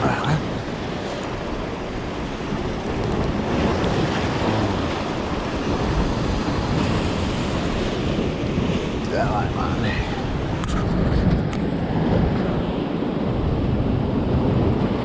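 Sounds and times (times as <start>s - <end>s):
sea waves washing against rocks: 0.0s - 15.0s
wind buffeting microphone: 0.0s - 15.0s.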